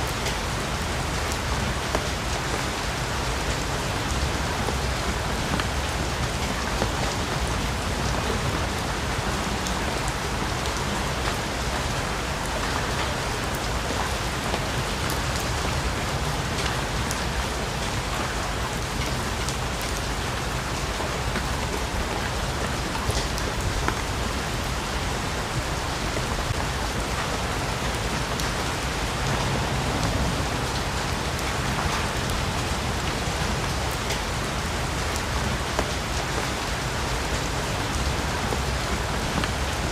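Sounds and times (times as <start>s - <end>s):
rain hissing: 0.0s - 39.9s
raindrops pattering on leaves: 0.0s - 39.9s.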